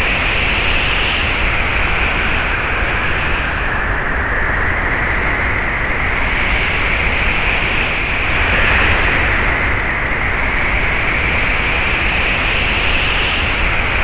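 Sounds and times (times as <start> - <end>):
blowing wind: 0.0 - 14.0
deep wind rumble: 0.0 - 14.0
hissing whistling wind: 0.0 - 14.0.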